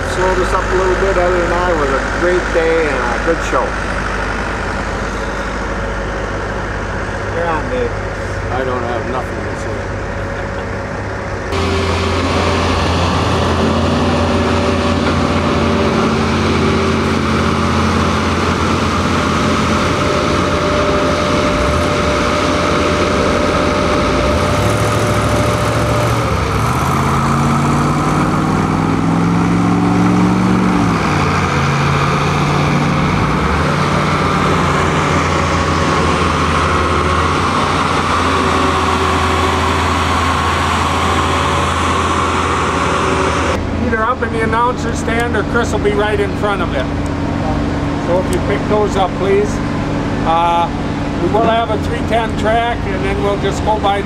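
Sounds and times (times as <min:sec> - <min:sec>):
engine revving: 0:00.0 - 0:54.0
heavy engines idling: 0:00.0 - 0:54.0.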